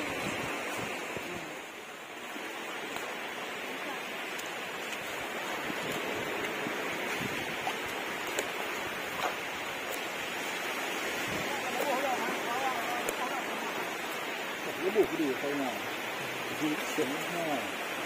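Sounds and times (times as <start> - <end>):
waves breaking on beach: 0.0 - 18.0.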